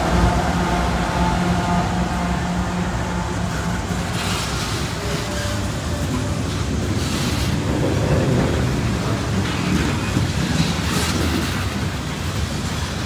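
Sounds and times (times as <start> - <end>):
hopper cars rumbling on rails: 0.0 - 13.0
locomotive engines running: 0.0 - 13.0
wheels hissing: 0.0 - 13.0.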